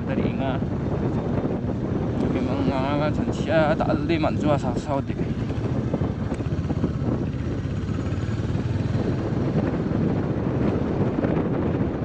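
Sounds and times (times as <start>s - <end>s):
wind on microphone: 0.0s - 12.0s
motorcycle engine running: 0.1s - 12.0s.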